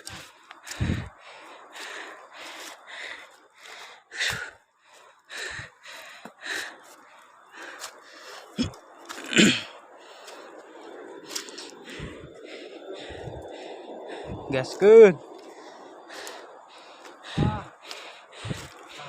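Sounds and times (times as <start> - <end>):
person breathing hard: 0.0 - 14.6, 15.2 - 19.0.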